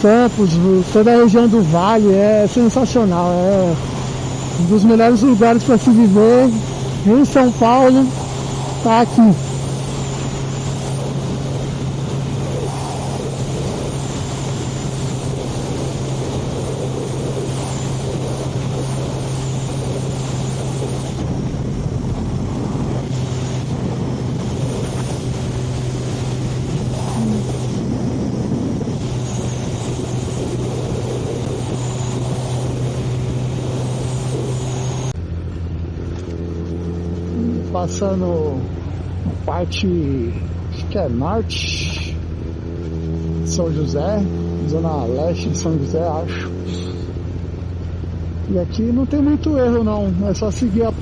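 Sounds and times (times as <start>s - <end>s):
motorcycle engine cruising: 0.0s - 51.0s
wind rush on microphone: 0.0s - 51.0s.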